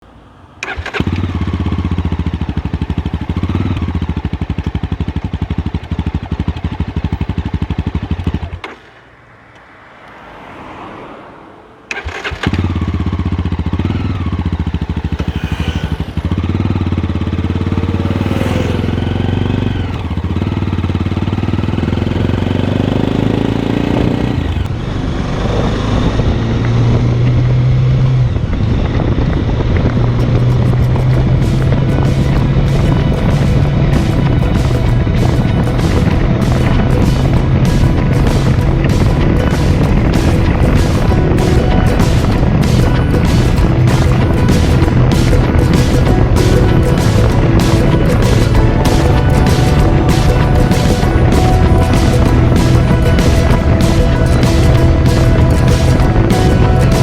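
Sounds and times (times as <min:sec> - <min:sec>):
motorcycle engine running: 0:00.6 - 0:09.5, 0:11.9 - 0:57.0.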